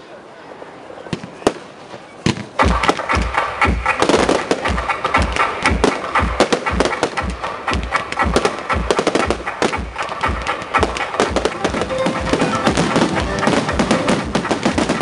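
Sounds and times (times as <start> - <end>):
fireworks bangs and crackles: 1.1 - 15.0
deep thuds: 2.2 - 15.0.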